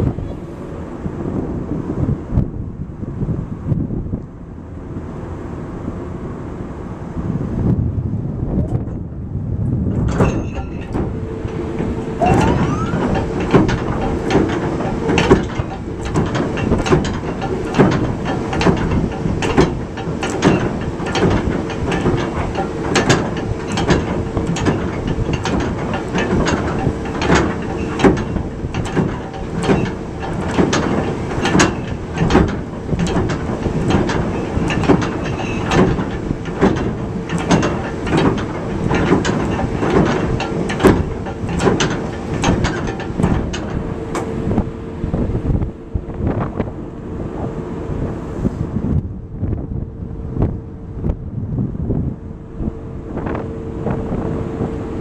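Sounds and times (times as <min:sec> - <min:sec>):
rough rumble: 0:00.0 - 0:55.0
steady hum: 0:00.0 - 0:55.0.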